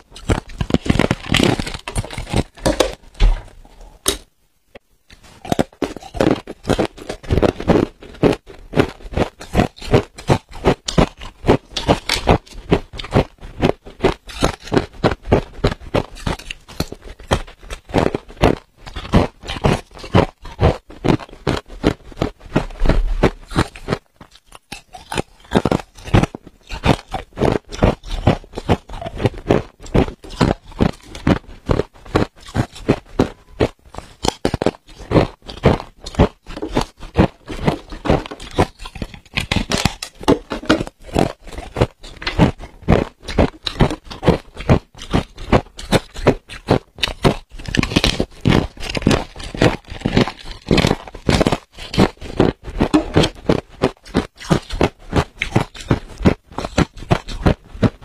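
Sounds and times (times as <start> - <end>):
ice being chewed: 0.0 - 4.3, 5.1 - 58.0.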